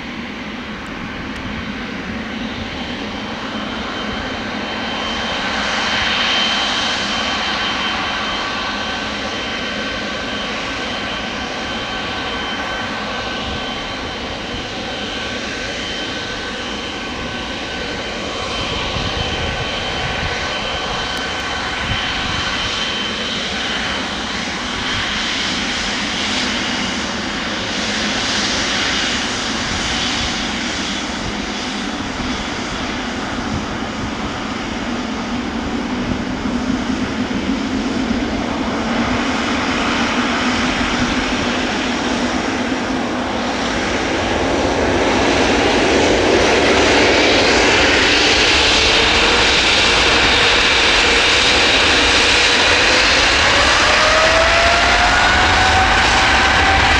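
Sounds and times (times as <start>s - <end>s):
jet engines running: 0.0s - 56.9s
rising engine whine: 0.0s - 56.9s.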